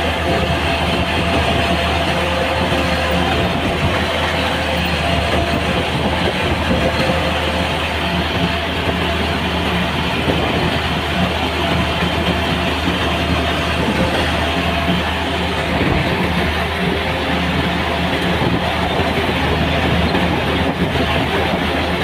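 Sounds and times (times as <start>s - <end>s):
machinery engine hum: 0.0s - 22.0s.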